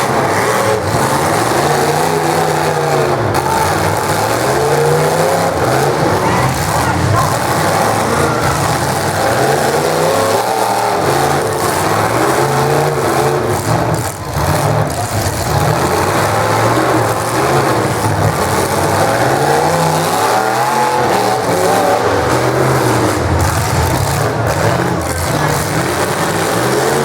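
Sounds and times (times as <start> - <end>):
car engines revving hard: 0.0 - 27.0.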